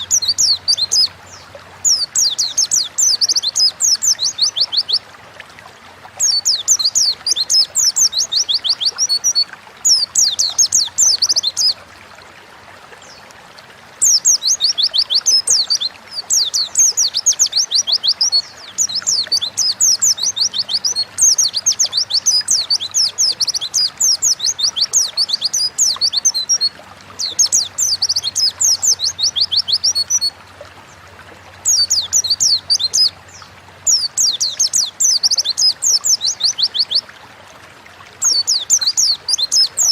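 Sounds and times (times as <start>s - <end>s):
bird twittering song: 0.0s - 5.0s, 6.2s - 11.8s, 14.0s - 30.3s, 31.6s - 37.1s, 38.2s - 39.9s.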